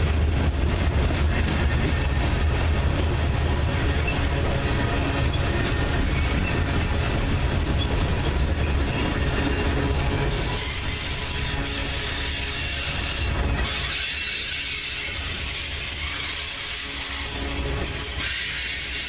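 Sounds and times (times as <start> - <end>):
steel wheels rumbling on rail: 0.0 - 19.0.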